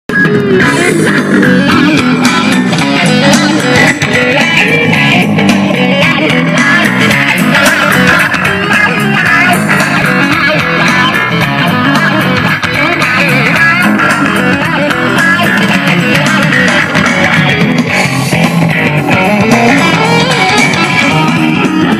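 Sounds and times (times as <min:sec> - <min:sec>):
guitar-led music with bass: 0:00.1 - 0:21.9.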